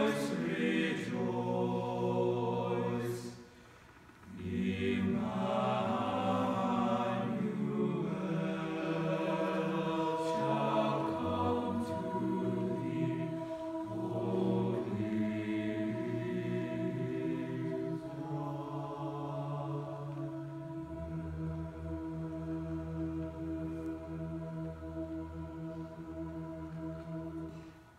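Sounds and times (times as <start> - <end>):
mixed choir singing sustained chords: 0.0 - 27.9.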